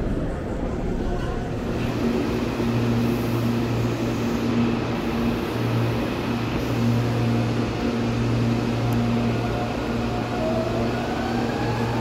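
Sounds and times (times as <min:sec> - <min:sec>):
electric train electrical hum: 0:00.0 - 0:12.0.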